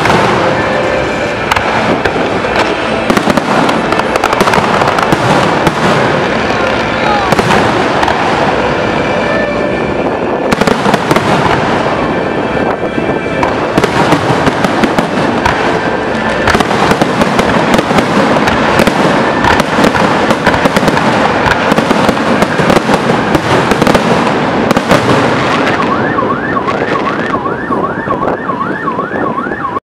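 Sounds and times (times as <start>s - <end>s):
fireworks crackling and popping: 0.0s - 29.3s
fireworks sharp bangs: 0.0s - 29.3s
rising firework whistles: 0.0s - 29.7s.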